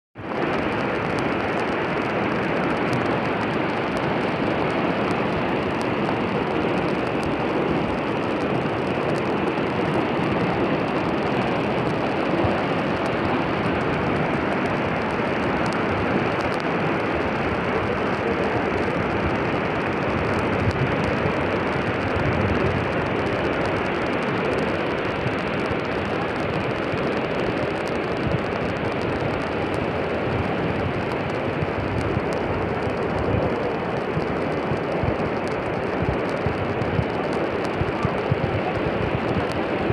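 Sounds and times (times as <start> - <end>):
floodwater rushing: 0.2 - 39.9.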